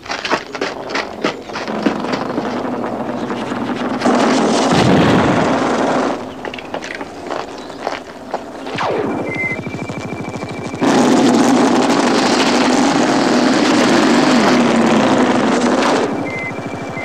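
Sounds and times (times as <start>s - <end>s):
sharp gunshots: 1.5s - 17.0s
loud explosion blast: 2.0s - 7.3s, 8.6s - 17.0s.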